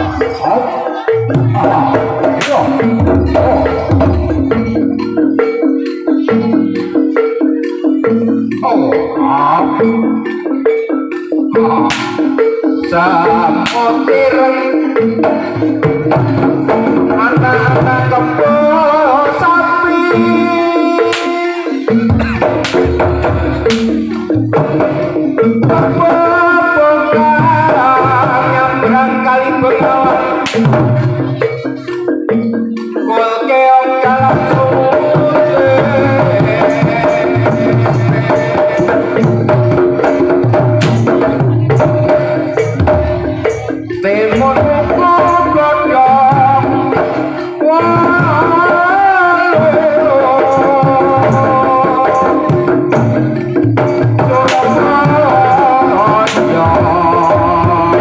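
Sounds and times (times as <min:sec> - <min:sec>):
hand drums beating: 0:00.0 - 0:58.0
melody on pitched percussion: 0:00.0 - 0:58.0.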